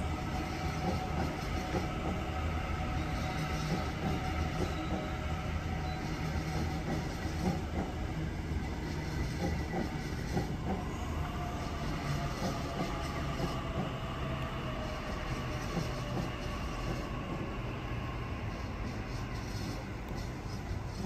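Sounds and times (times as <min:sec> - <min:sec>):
faint whining tones: 0:00.0 - 0:21.0
train rumbling: 0:00.0 - 0:21.0.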